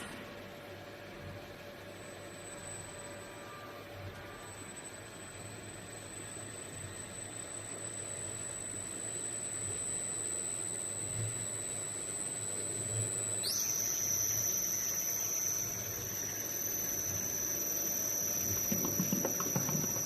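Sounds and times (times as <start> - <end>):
mechanical hum: 0.0 - 20.0
mixer high-pitched whine: 0.0 - 20.0.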